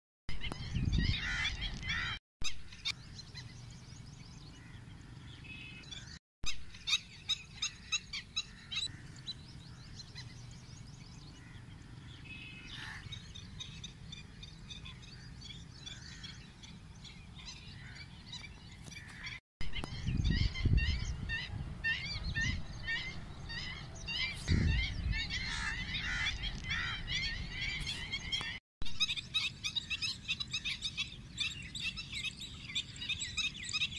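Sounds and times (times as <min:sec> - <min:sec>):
small birds chirping: 0:00.3 - 0:33.9.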